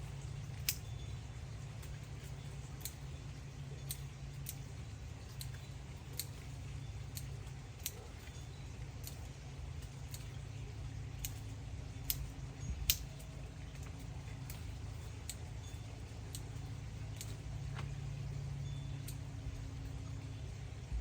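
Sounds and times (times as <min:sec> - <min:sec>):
pruning shears snipping: 0:00.4 - 0:01.0, 0:01.6 - 0:19.4.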